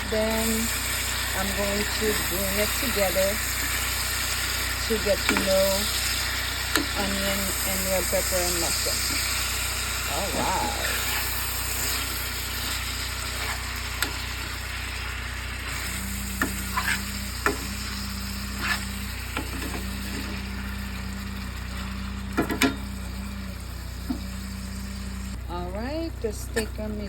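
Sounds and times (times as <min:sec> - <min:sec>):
meat sizzling in a pan: 0:00.0 - 0:25.3
low hum: 0:00.0 - 0:27.0.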